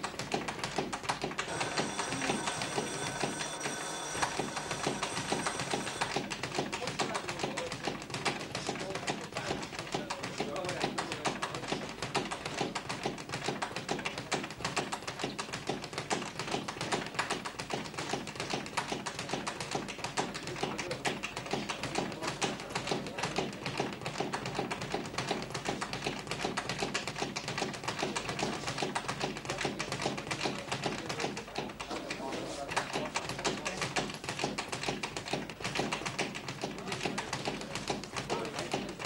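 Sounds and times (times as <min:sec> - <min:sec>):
fast patter of taps and knocks: 0:00.0 - 0:39.0.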